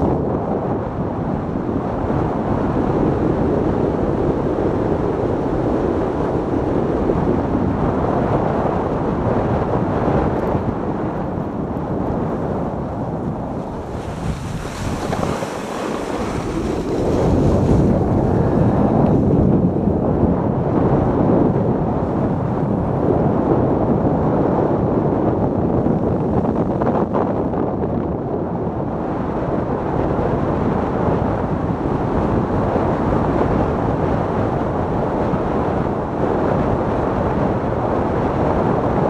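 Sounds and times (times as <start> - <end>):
luge runners rumbling on snow: 0.0 - 39.0
wind buffeting microphone: 0.0 - 39.0.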